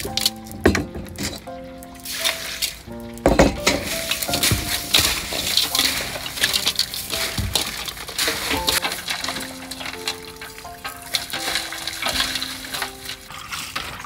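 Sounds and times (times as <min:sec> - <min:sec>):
background music: 0:00.0 - 0:13.3
ice clinking in a metal bowl: 0:00.0 - 0:14.0
water sloshing: 0:00.0 - 0:14.0.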